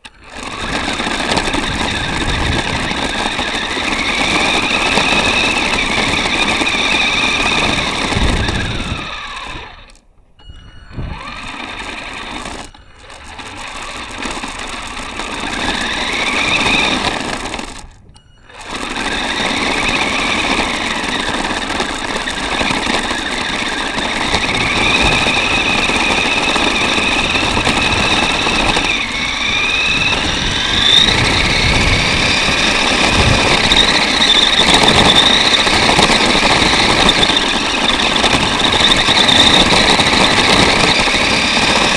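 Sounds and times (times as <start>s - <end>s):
rough drivetrain noise: 0.0s - 41.9s
toy car electric motor whining: 0.0s - 41.9s.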